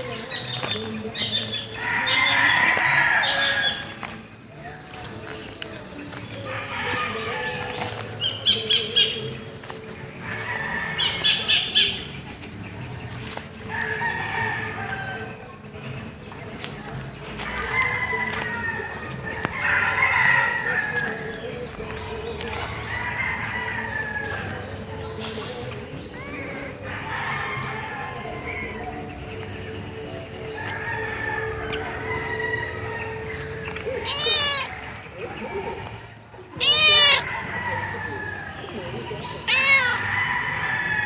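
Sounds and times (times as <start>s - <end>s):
rooster crowing: 0.0s - 12.3s, 13.0s - 15.8s, 16.8s - 41.0s
chickens calling: 0.0s - 41.0s.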